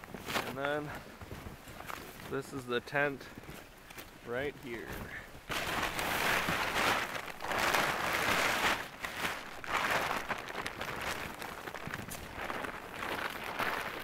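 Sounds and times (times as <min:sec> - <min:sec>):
plastic tarp crinkling: 0:00.0 - 0:14.0.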